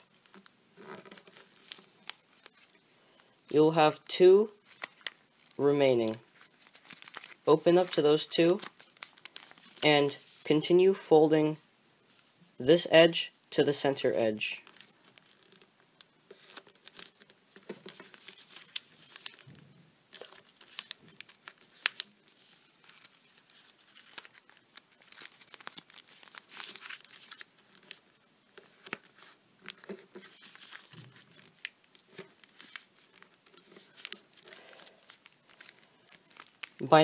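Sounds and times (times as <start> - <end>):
paper being folded and creased: 0.0 - 2.8, 4.6 - 10.5, 14.6 - 37.0
paper crack: 0.0 - 2.8, 4.6 - 10.4, 14.6 - 37.0.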